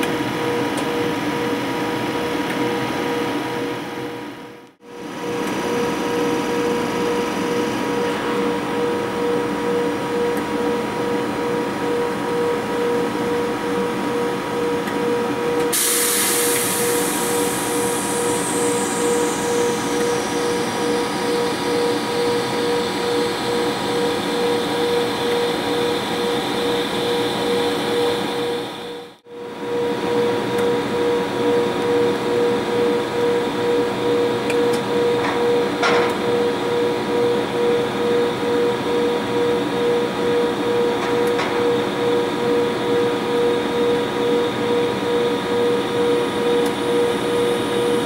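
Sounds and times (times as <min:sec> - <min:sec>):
electrical hum and whine: 0:00.0 - 0:48.0.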